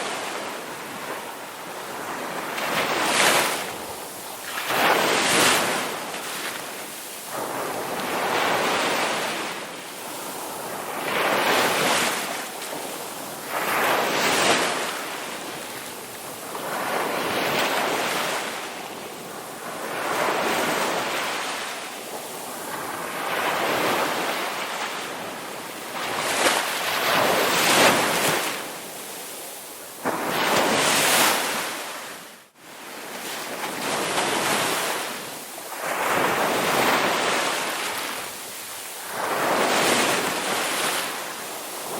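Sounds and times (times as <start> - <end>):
sea waves breaking on beach: 0.0 - 41.9.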